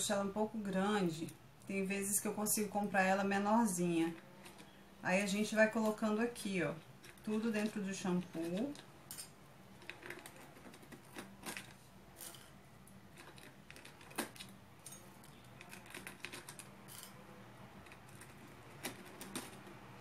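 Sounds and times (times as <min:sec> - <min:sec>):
dried flowers clicking and crinkling: 0:03.8 - 0:20.0.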